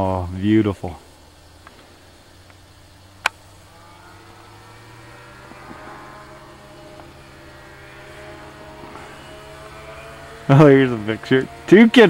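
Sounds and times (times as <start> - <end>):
light aircraft engine: 0.0 - 12.0.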